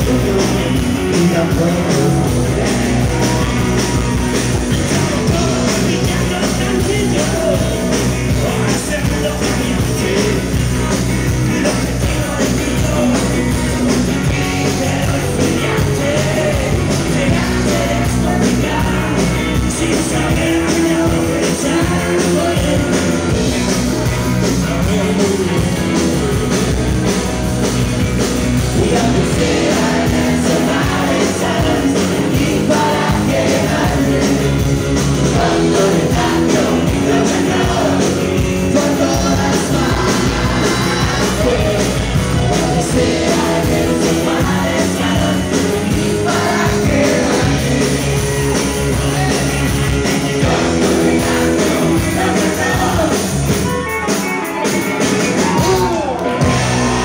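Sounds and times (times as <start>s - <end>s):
man singing: 0.0s - 26.5s, 28.5s - 53.8s
rock band playing: 0.0s - 57.0s.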